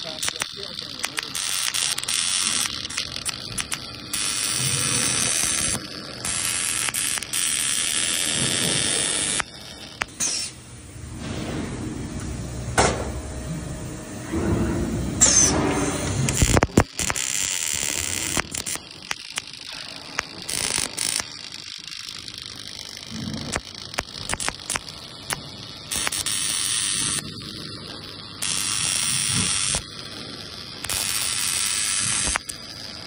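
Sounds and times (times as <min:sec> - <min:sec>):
welding torch arc crackling: 0:00.0 - 0:11.6, 0:15.2 - 0:33.0.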